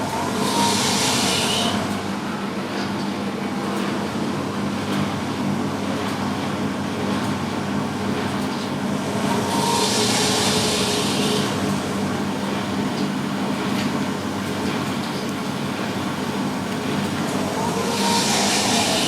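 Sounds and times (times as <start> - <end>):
washing machines spinning: 0.0 - 19.0.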